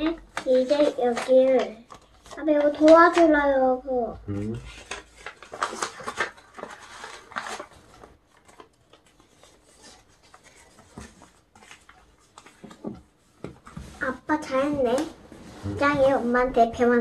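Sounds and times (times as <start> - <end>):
paper rustling and crinkling: 0.0 - 3.4, 4.7 - 16.5.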